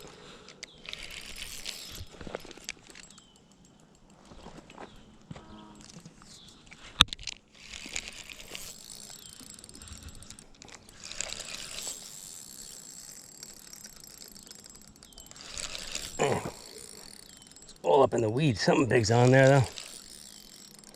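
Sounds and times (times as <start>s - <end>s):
fishing reel ticking and whirring: 0.0s - 5.1s, 5.7s - 20.9s.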